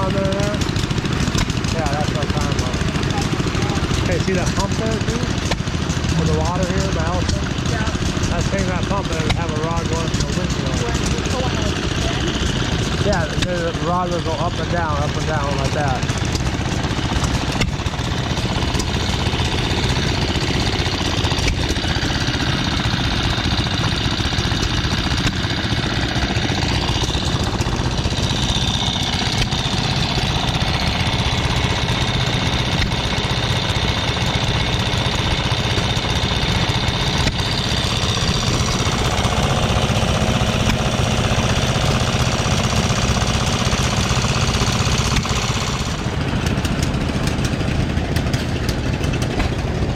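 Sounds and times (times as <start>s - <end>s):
small gas engine running: 0.0s - 49.9s.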